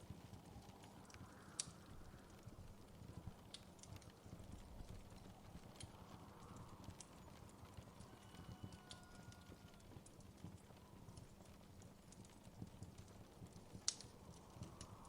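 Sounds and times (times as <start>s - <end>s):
faint wood fire crackling: 0.0s - 15.0s.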